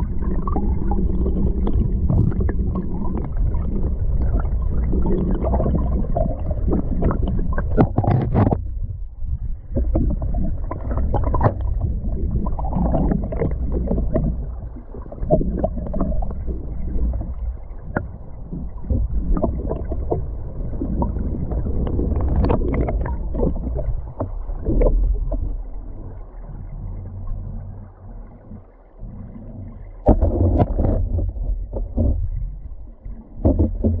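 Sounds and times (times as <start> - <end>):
muffled underwater river rushing: 0.0 - 34.0
underwater clicks and knocks: 0.2 - 25.7, 30.0 - 34.0.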